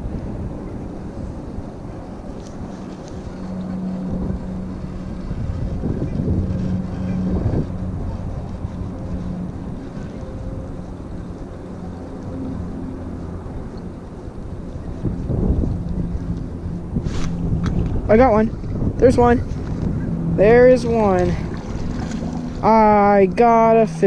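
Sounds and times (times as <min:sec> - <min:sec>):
steady low hum: 0:00.0 - 0:24.0
wind buffeting microphone: 0:00.0 - 0:24.0.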